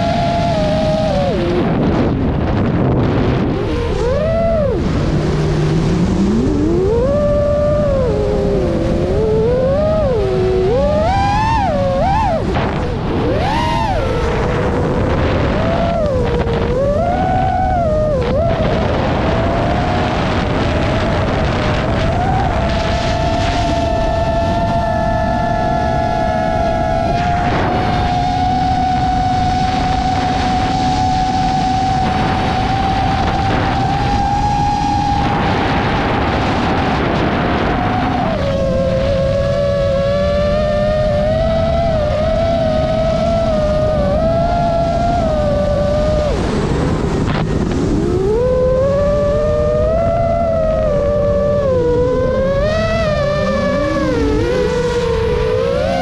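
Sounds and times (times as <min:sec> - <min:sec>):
quadcopter motors whining: 0:00.0 - 0:56.0
rushing wind: 0:00.0 - 0:56.0.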